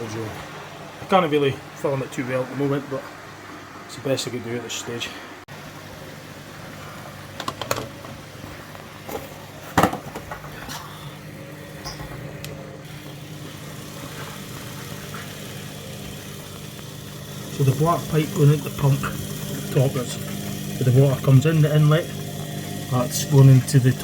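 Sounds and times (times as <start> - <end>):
drain pump humming: 0.0 - 24.0.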